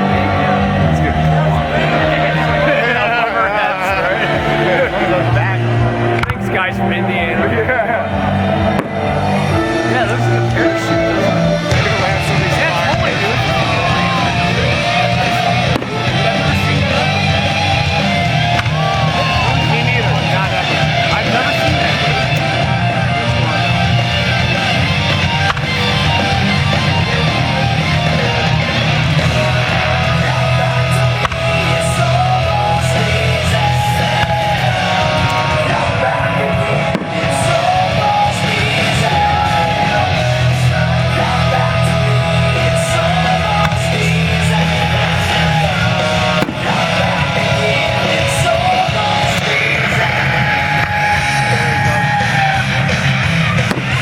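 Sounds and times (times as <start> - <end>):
rock music with guitar: 0.0 - 54.0.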